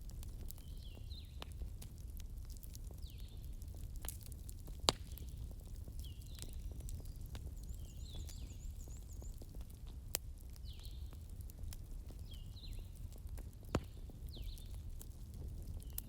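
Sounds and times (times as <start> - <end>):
bonfire crackling: 0.0 - 16.0
fire popping: 0.0 - 16.0.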